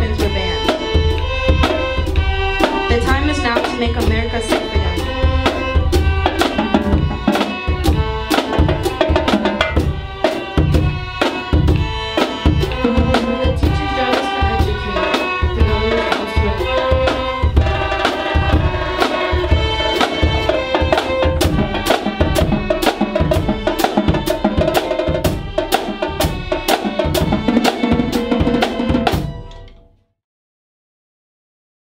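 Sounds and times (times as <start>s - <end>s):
marching drums: 0.0s - 29.9s
violins playing melody: 0.0s - 29.9s.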